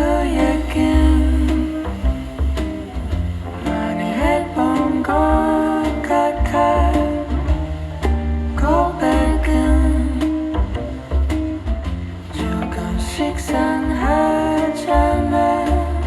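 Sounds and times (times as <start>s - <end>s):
person singing: 0.0s - 2.6s, 3.6s - 11.1s, 12.3s - 16.0s
deep plucked bass line: 0.0s - 16.0s
plucked guitar: 0.0s - 16.0s.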